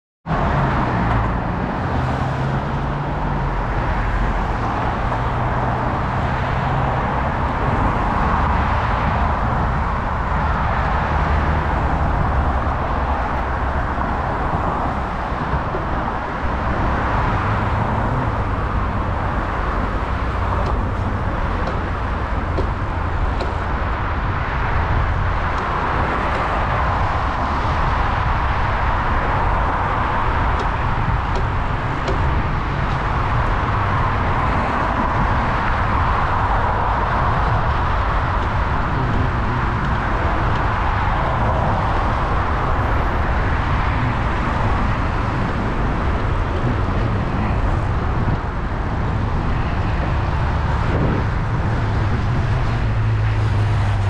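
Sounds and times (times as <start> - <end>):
wind rumbling on microphone: 0.2 - 54.0
cars passing: 0.3 - 54.0.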